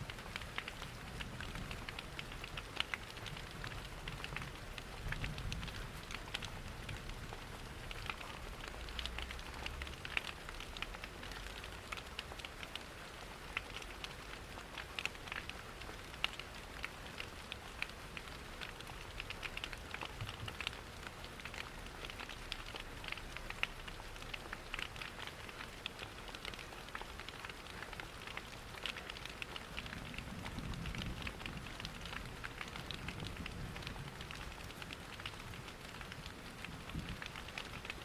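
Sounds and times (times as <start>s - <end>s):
rain pattering: 0.0s - 38.0s
wood fire crackling: 0.3s - 38.0s.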